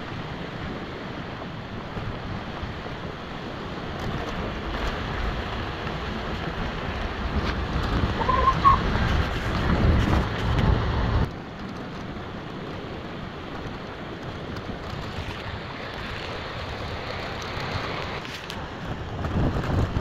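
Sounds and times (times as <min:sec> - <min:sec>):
steady rushing noise: 0:00.0 - 0:20.0
wind buffeting microphone: 0:00.0 - 0:20.0.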